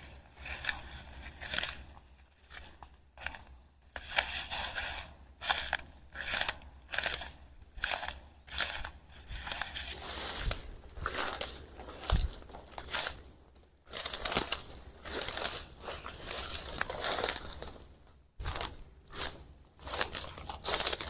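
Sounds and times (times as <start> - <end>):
footsteps crunching dry leaves: 0.0 - 21.0.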